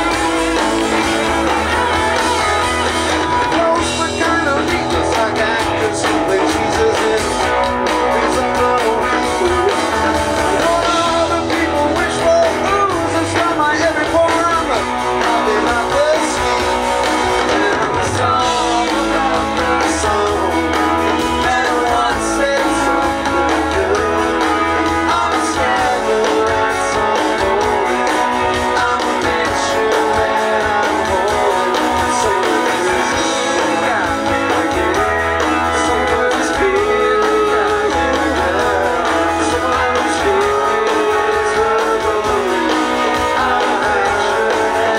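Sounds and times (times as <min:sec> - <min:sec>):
live rock band playing: 0:00.0 - 0:44.9
person singing: 0:00.0 - 0:44.9.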